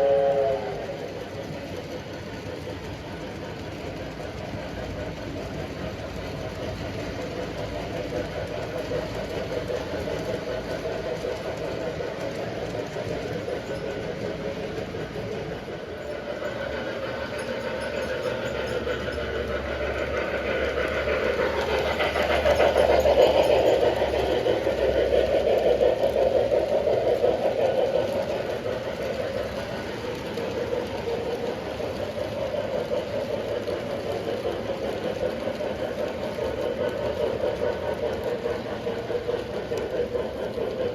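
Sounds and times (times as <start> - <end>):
model train wheel rattle: 0.0 - 40.9.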